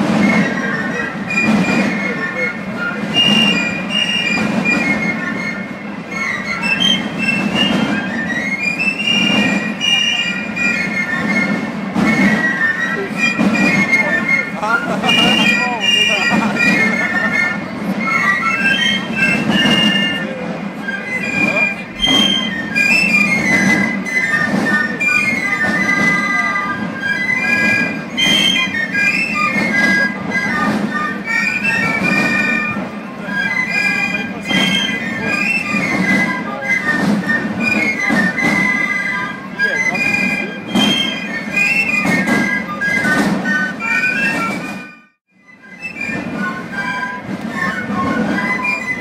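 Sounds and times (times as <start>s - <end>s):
snare drums: 0.0s - 5.6s, 6.6s - 18.0s, 18.6s - 20.3s, 21.2s - 32.9s, 33.6s - 44.9s
piccolos playing a high melody: 0.1s - 49.0s.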